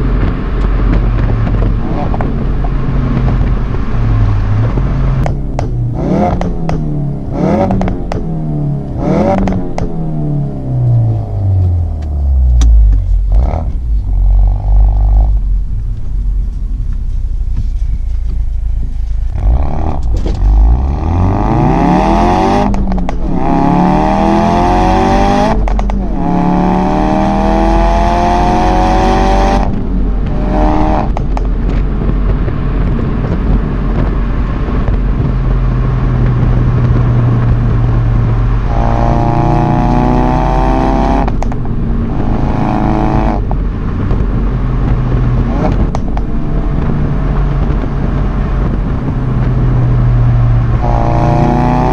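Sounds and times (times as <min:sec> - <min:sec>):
car engine revving: 0:00.0 - 0:51.9
exhaust cracks: 0:00.0 - 0:51.9.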